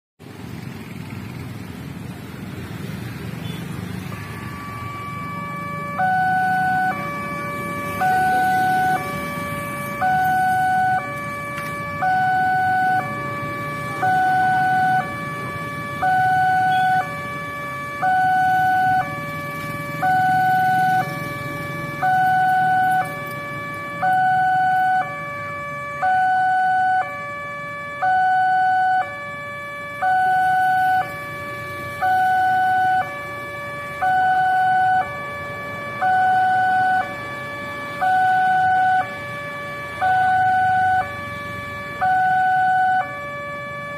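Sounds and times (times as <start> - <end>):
road traffic rumble: 0.2 - 43.9
two-tone crossing alarm chime: 4.1 - 43.9.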